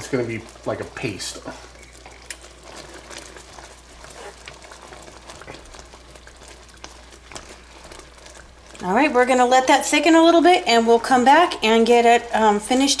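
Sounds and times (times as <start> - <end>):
gravy bubbling and popping: 0.0 - 13.0.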